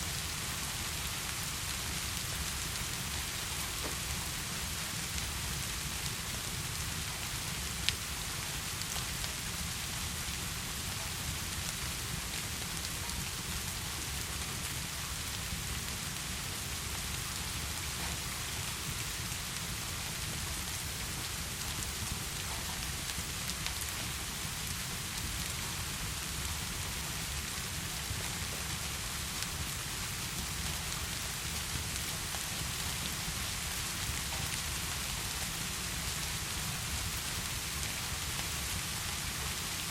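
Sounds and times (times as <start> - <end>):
heavy rain falling: 0.2 - 39.8.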